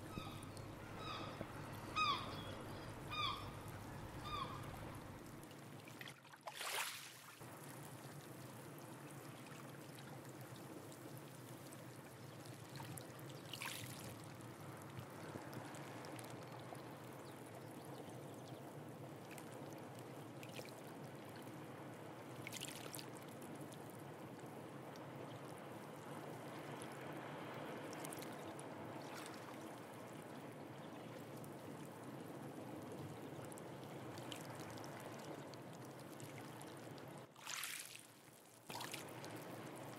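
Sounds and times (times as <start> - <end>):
water swishes: 0.0 - 39.9.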